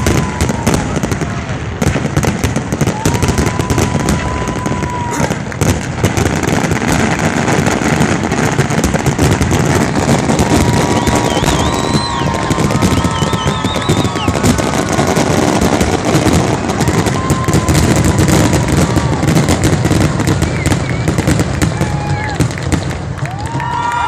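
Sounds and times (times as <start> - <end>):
high warbling fireworks whistles: 0.0 - 22.6
fireworks bangs and crackles: 0.0 - 24.0.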